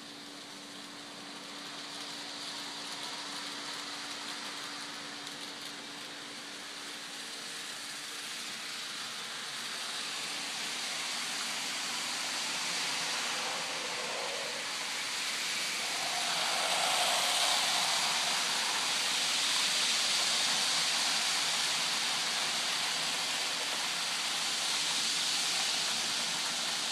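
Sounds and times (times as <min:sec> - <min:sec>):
model train running on track: 0:00.0 - 0:26.9.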